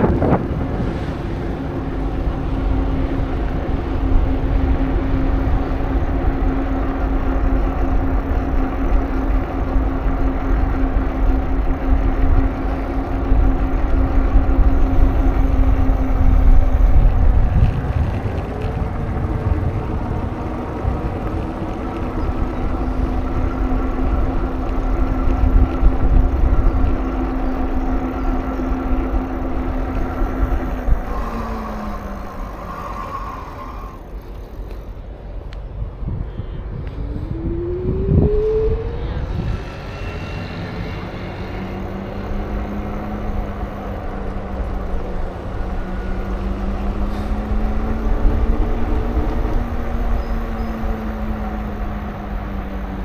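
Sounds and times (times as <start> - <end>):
steady motor hum: 0.0 - 53.0
wind rumbling on microphone: 0.0 - 53.0.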